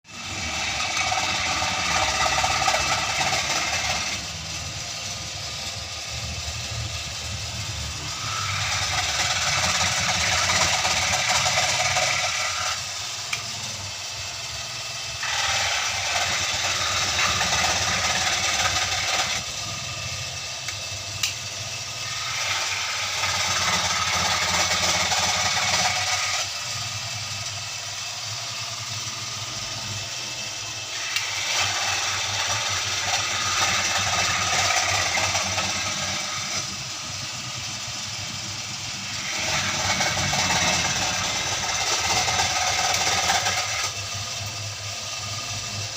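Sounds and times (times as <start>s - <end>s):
machine motor humming: 0.1s - 45.9s.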